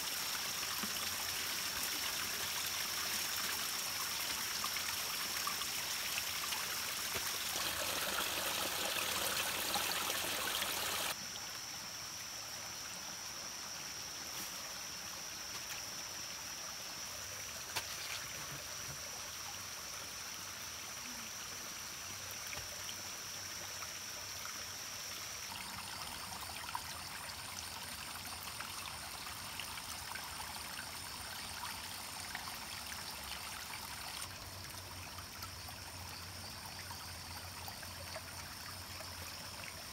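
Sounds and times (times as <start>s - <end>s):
stream trickling over rock: 0.0s - 11.8s, 13.9s - 39.9s.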